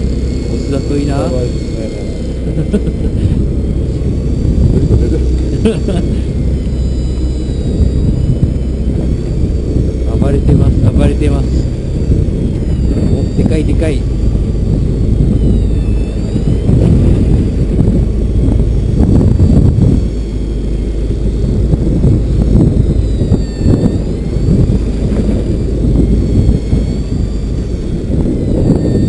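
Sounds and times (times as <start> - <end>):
boat engine rumble: 0.0 - 29.0
faint high whine: 0.0 - 29.0
wind buffeting microphone: 0.0 - 29.0.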